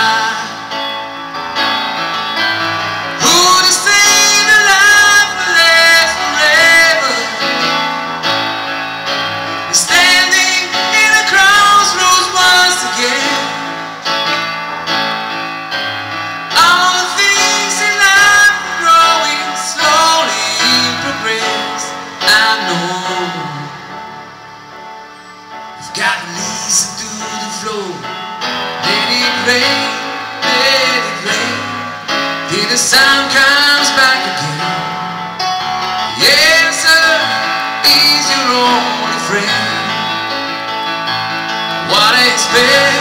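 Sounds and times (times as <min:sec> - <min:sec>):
electric keyboard chords: 0:00.0 - 0:43.0.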